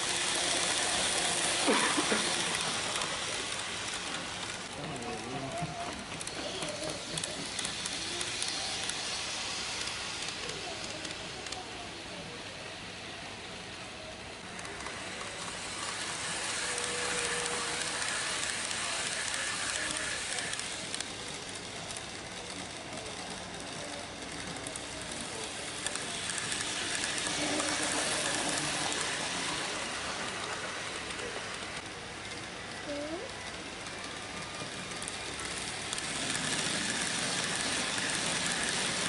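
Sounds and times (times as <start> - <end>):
model trains rattling on track: 0.0 - 39.0.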